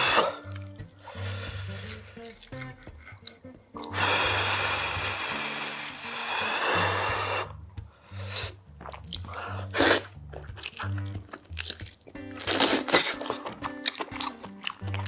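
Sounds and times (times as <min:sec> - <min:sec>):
chewing: 0:00.0 - 0:15.0
soft background music: 0:00.0 - 0:15.0
wet slurping and sucking: 0:00.0 - 0:15.0.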